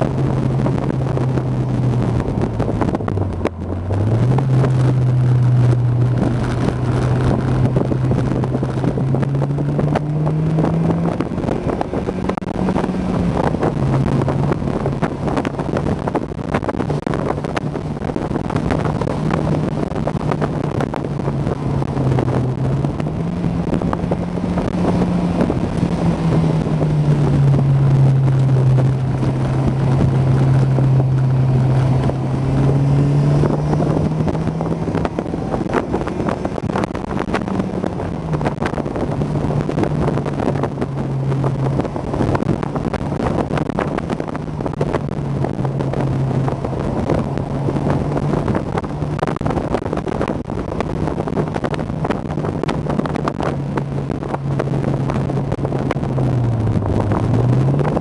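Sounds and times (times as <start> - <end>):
car engine pulling: 0.0 - 58.0
wind noise rushing: 0.0 - 58.0.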